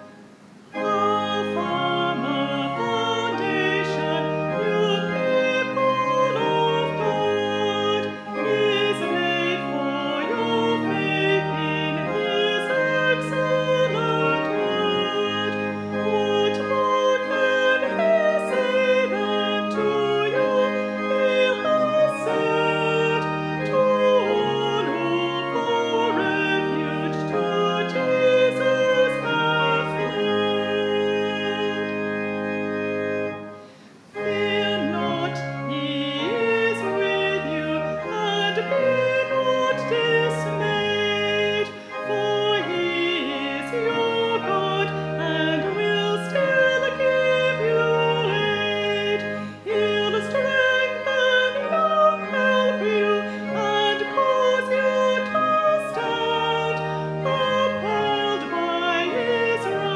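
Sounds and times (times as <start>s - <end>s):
keyboard accompaniment: 0.0s - 59.9s
voices singing a hymn: 0.0s - 59.9s.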